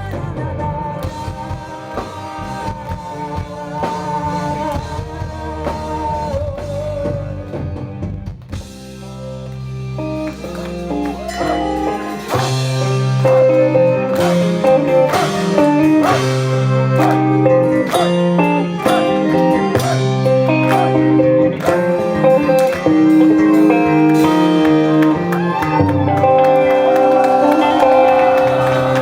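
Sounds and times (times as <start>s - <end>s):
guitar: 0.0s - 29.0s
live folk-rock band playing: 0.0s - 29.0s.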